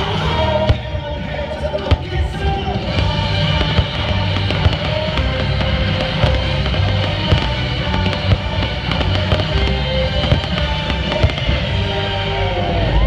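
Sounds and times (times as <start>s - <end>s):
fireworks bursting: 0.0s - 12.8s
dramatic soundtrack music: 0.0s - 13.0s.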